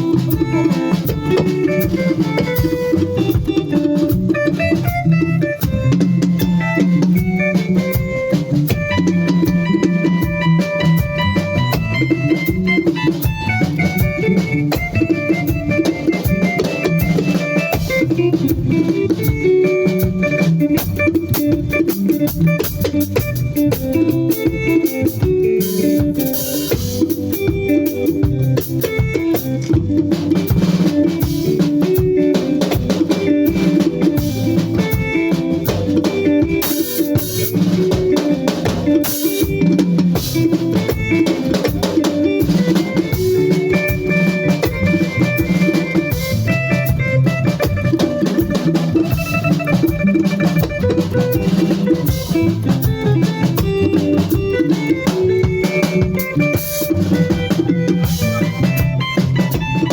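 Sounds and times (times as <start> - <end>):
band music: 0.0 - 59.9
drum kit beat: 0.0 - 59.9.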